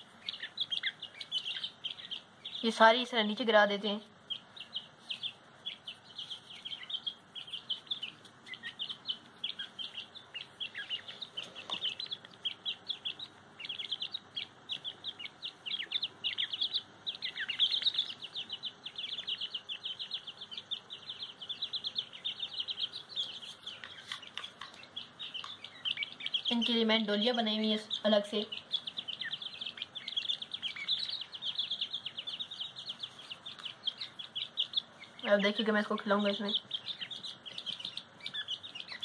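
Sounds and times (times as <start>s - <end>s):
chicks peeping: 0.0s - 39.0s.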